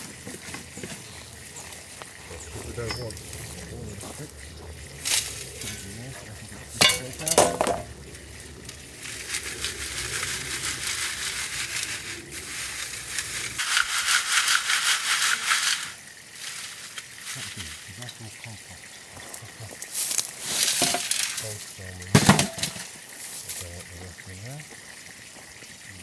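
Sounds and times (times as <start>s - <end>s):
crunchy rustle of soil being dug: 0.0s - 25.6s.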